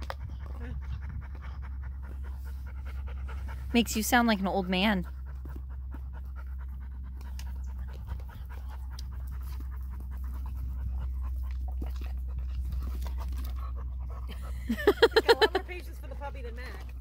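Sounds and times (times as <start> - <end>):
dog panting: 0.0 - 17.0
steady low hum: 0.0 - 17.0.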